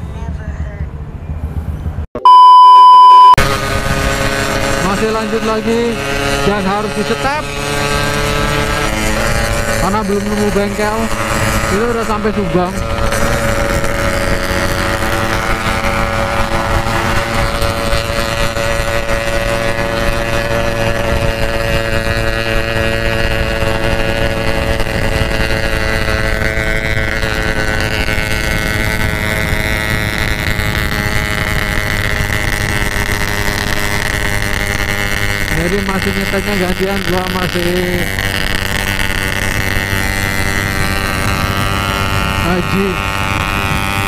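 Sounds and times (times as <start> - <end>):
motorcycle engine running: 0.0 - 2.1, 3.3 - 44.0
wind rushing over microphone: 3.4 - 44.0.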